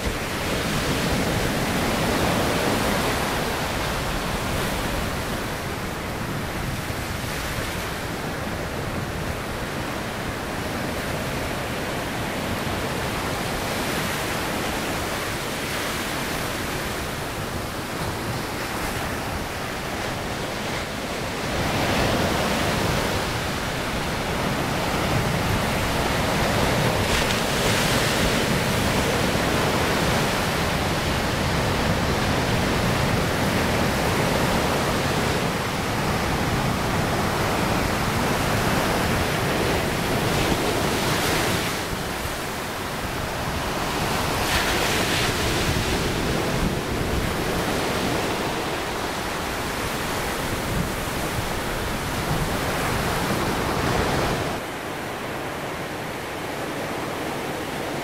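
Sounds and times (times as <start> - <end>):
surf breaking on beach: 0.0 - 56.4.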